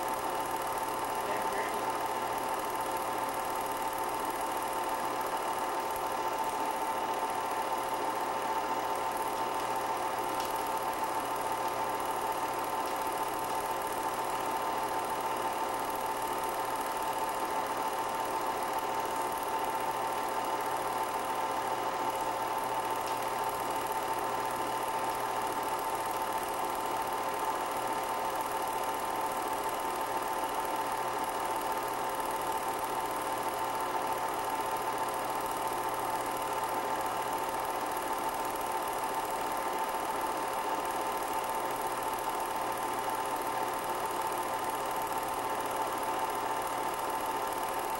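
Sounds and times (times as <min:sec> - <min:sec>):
film projector whirring: 0:00.0 - 0:47.9.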